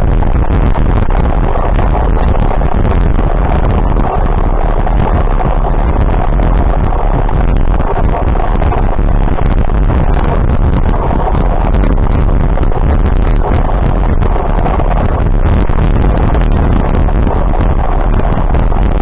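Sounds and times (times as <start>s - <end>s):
vehicle running noise: 0.0s - 19.0s
wind buffeting microphone: 0.0s - 19.0s.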